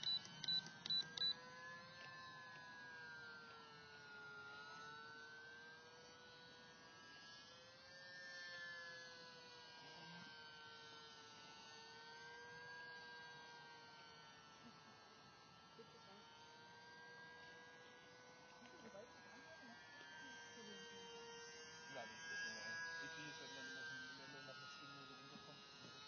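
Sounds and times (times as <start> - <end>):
model plane motor whine: 0.0 - 26.0.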